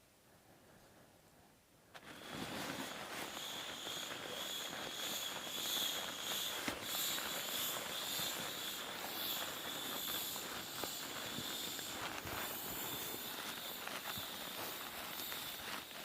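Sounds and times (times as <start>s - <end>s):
steady hiss: 1.4s - 16.0s
footsteps crunching through snow: 2.0s - 16.0s.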